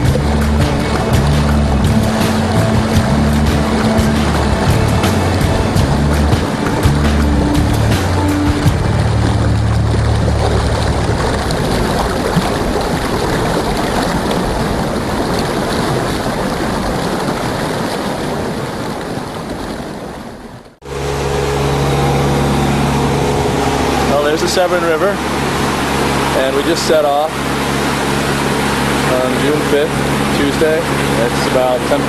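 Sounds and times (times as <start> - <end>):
steady engine hum: 0.0 - 15.2, 20.6 - 32.0
water rushing past boat: 0.0 - 32.0.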